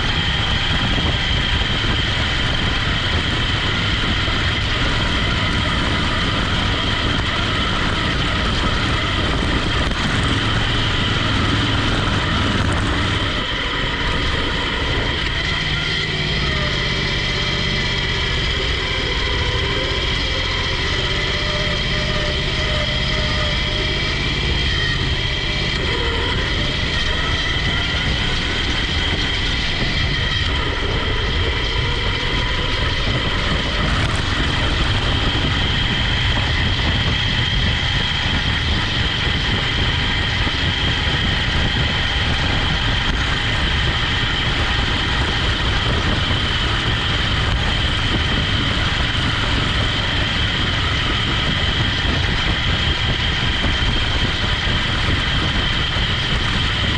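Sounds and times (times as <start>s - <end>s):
small engine droning: 0.0s - 56.9s
steady high whine: 0.0s - 56.9s.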